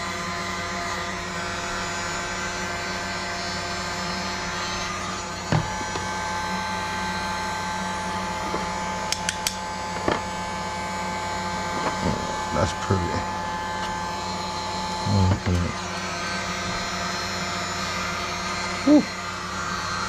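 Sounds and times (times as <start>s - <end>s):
heat gun blowing and whining: 0.0s - 20.0s.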